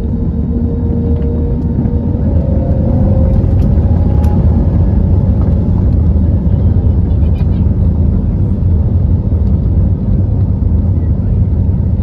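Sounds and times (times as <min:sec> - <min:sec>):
deep rumble of engines and wheels: 0:00.0 - 0:12.0.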